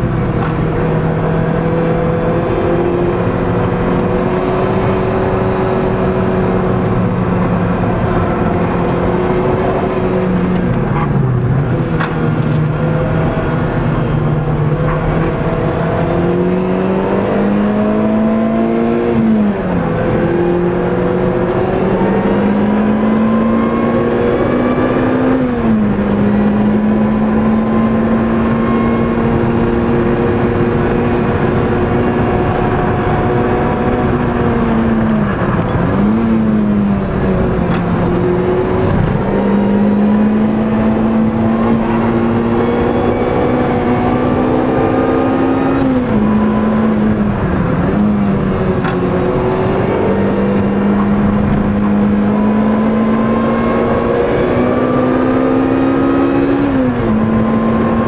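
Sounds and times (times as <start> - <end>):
car engine revving hard: 0.0 - 58.0
road and tyre noise: 0.0 - 58.0.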